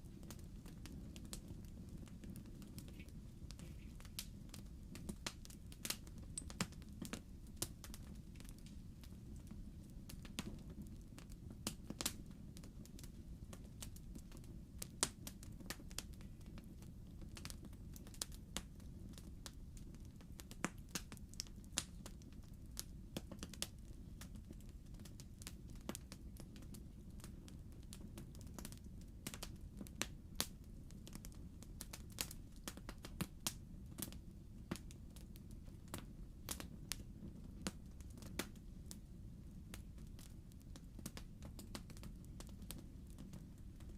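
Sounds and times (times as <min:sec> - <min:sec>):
low rumble of burning fire: 0:00.0 - 0:43.9
wood fire popping and snapping: 0:00.0 - 0:43.9.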